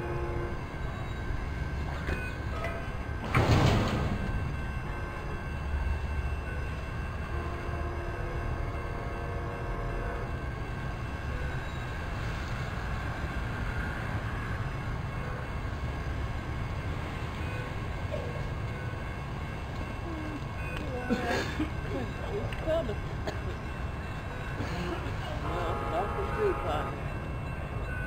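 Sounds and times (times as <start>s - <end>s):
faint steady tones: 0.0s - 28.0s.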